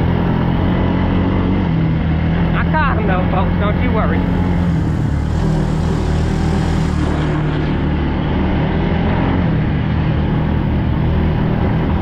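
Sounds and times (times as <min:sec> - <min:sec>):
atv engine drone: 0:00.0 - 0:12.0.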